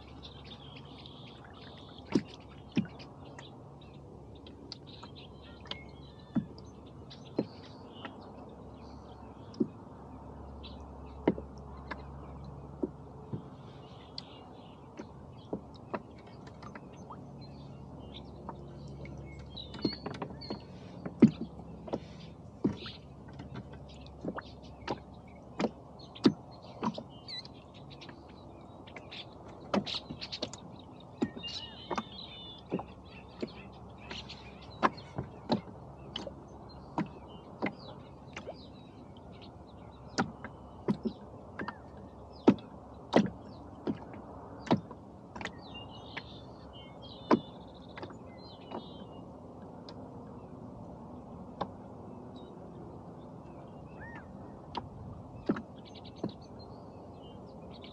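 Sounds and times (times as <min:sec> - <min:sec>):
rowboat knocking and clicking: 0:00.0 - 0:56.6.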